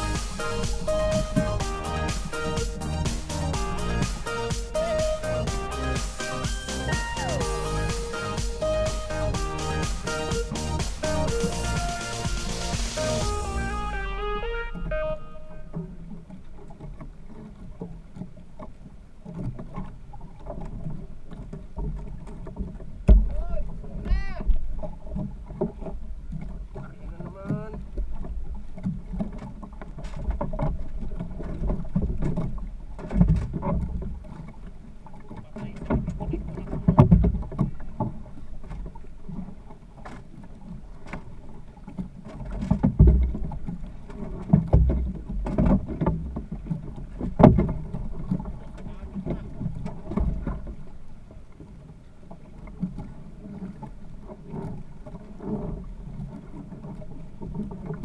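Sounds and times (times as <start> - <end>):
boat knocks and thumps: 0.0 - 58.0
water slapping boat hull: 0.0 - 58.0.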